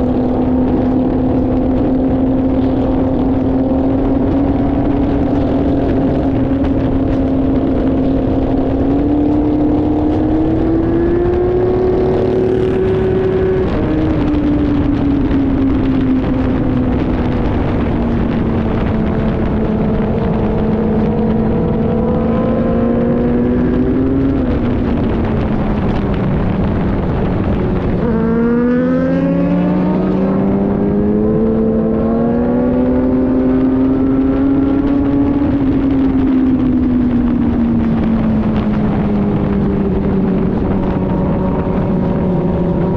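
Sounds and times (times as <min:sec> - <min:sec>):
motorcycle engine running: 0:00.0 - 0:42.9
wind and road rush: 0:00.0 - 0:42.9.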